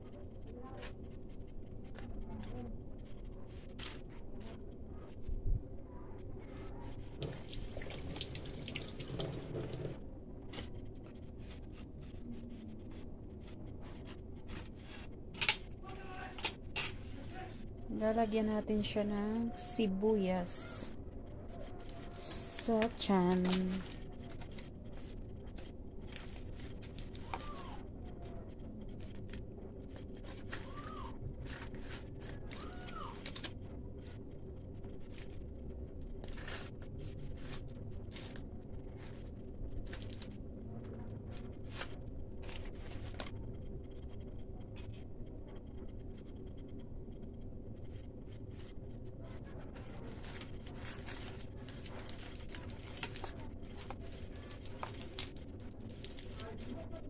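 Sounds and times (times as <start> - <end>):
steady low hum: 0.0 - 57.0
aluminium foil crinkling: 6.4 - 43.5, 47.7 - 57.0.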